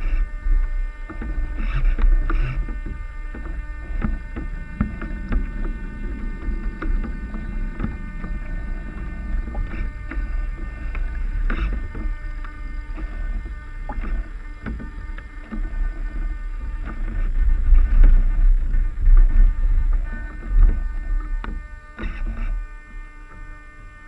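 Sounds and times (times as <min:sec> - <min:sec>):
water slapping against hulls: 0:00.0 - 0:24.0
wind rumble on microphone: 0:00.0 - 0:24.0.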